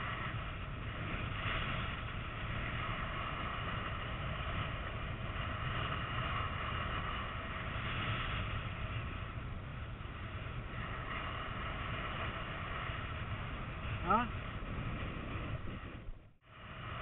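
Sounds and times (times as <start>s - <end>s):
wind noise on microphone: 0.0s - 17.0s.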